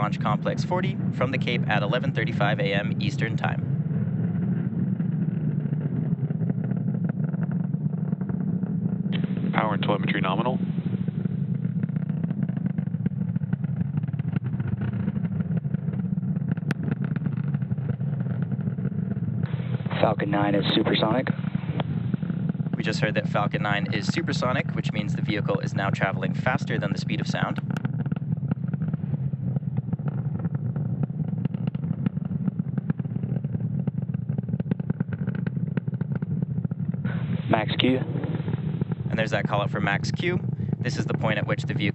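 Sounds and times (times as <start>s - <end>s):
rocket engines rumbling: 0.0s - 41.9s.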